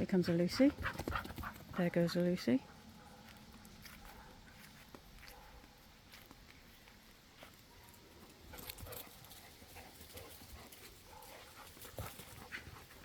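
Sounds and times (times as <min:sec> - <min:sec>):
faint dog noises: 0:00.4 - 0:06.3, 0:07.4 - 0:13.0.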